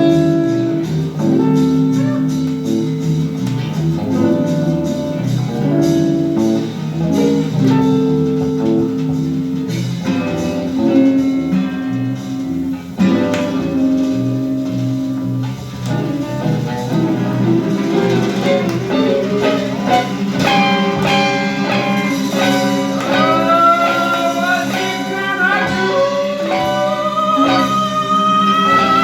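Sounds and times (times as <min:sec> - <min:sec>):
bass line: 0:00.0 - 0:29.0
electric guitar melody: 0:00.0 - 0:29.0.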